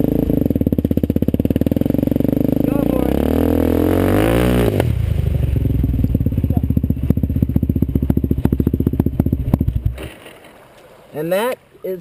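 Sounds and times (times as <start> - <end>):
quad engine revving and chugging: 0.0 - 10.0.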